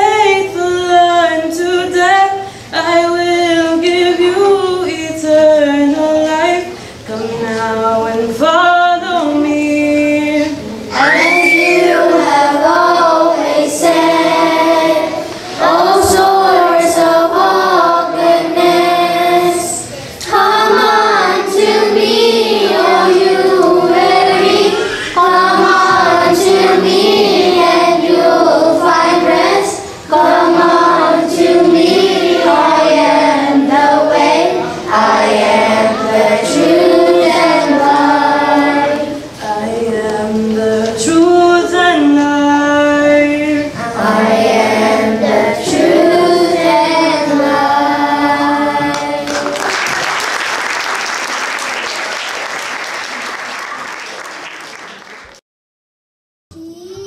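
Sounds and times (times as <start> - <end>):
children's choir singing: 0.0 - 55.2.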